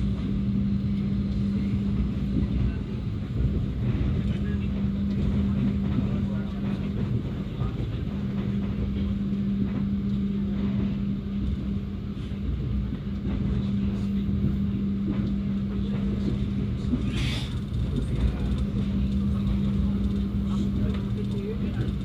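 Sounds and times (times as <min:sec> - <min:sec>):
constant hum: 0:00.0 - 0:22.0
train wheels rumbling: 0:00.0 - 0:22.0.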